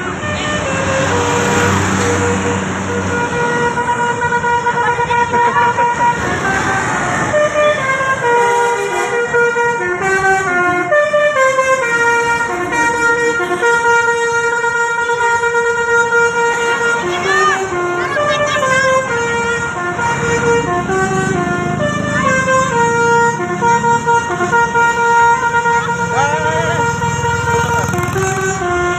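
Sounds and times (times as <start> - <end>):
engine rumble: 0.0 - 28.9
musical bus horn playing a tune: 0.0 - 28.9.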